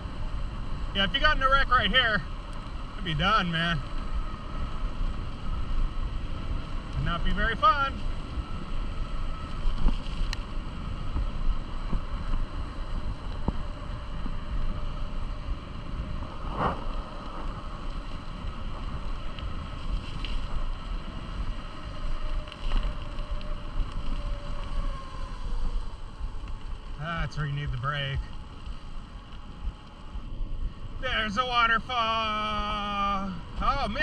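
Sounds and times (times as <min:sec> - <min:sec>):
faint steady whine: 0:00.0 - 0:34.0
wind buffeting microphone: 0:02.0 - 0:34.0.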